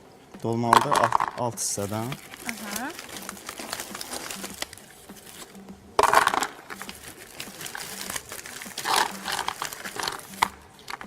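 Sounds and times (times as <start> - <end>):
stones clattering into a pot: 0.7 - 4.8, 6.0 - 11.0.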